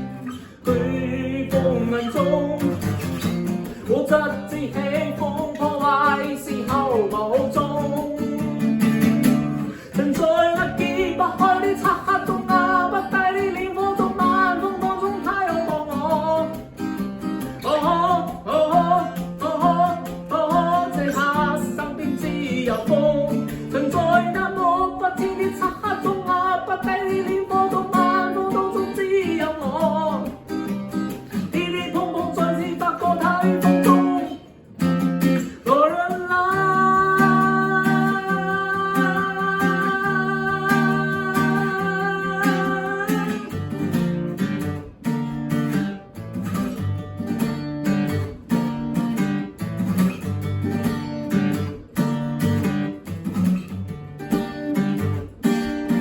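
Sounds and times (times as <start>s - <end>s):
person singing pop song: 0.0s - 46.1s
strummed acoustic guitar: 0.0s - 56.0s.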